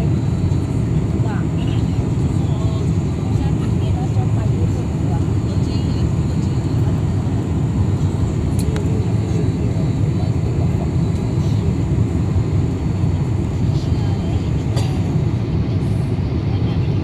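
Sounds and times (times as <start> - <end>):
jet airliner rumble: 0.0 - 17.0.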